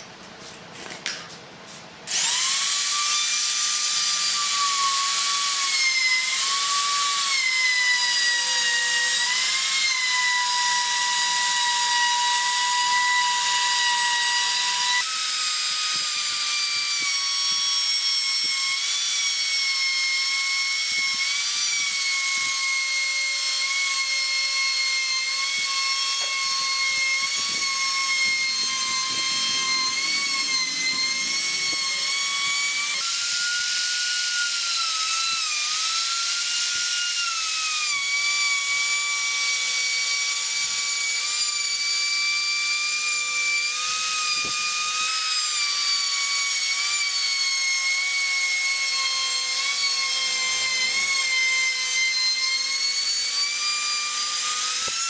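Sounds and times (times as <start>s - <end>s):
router whining cutting wood: 2.1s - 55.0s.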